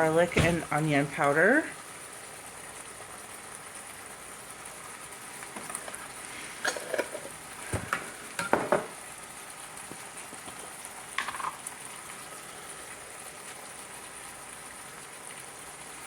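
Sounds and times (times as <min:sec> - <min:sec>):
chicken sizzling in a pot: 0:00.0 - 0:16.0.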